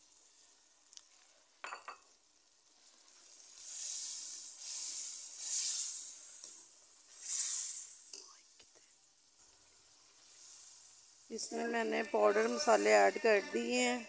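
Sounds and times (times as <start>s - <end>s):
masala sizzling in a pot: 0.0s - 14.0s.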